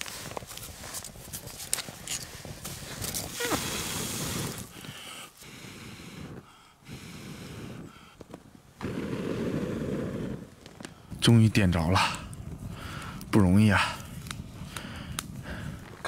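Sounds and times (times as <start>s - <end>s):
person blowing breaths on fire: 2.1s - 11.2s, 12.0s - 16.0s.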